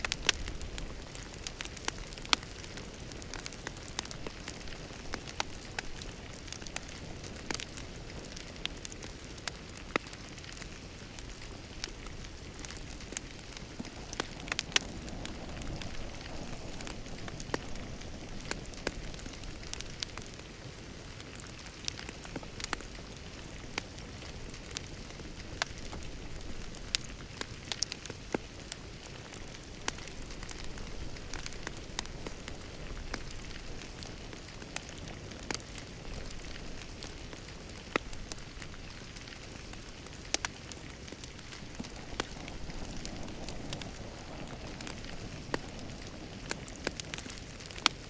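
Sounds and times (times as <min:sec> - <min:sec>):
flames rumbling and hissing: 0:00.0 - 0:48.0
wood fire crackling: 0:00.0 - 0:48.0.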